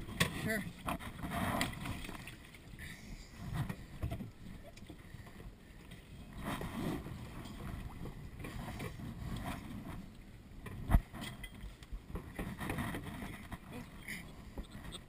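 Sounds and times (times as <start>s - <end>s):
water rushing against a hull: 0.0s - 15.0s.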